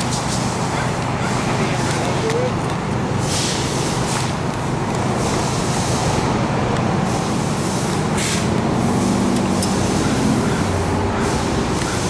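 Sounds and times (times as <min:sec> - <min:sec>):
forklift engine humming: 0:00.0 - 0:12.0.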